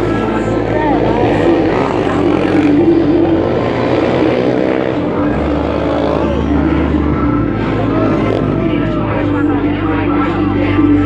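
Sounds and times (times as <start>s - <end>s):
motorcycle engines revving: 0.0s - 11.0s
steady low drone: 0.0s - 11.0s.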